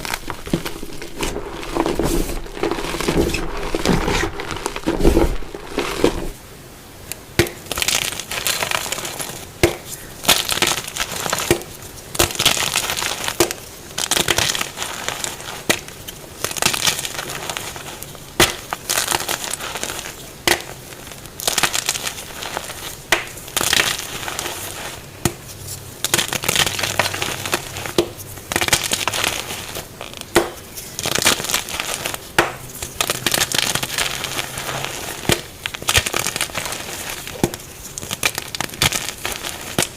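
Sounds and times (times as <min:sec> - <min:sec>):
chalk being crushed by hand: 0:00.0 - 0:06.4, 0:07.4 - 0:39.9.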